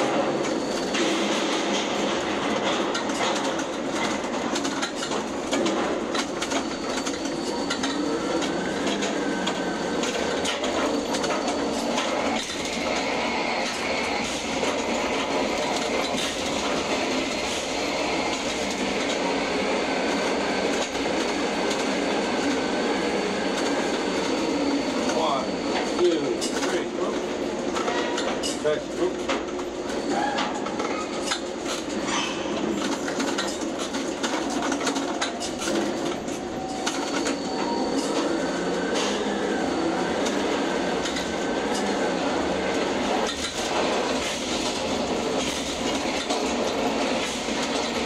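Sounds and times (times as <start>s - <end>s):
high machinery whine: 0.0s - 28.4s, 32.9s - 48.0s
crane machinery clatter and rattle: 0.0s - 39.3s, 40.0s - 48.0s.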